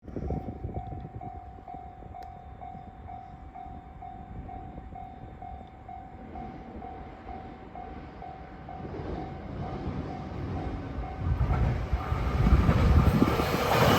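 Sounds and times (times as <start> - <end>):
electric train rumble: 0.1 - 13.9
level-crossing warning bell: 0.4 - 13.9.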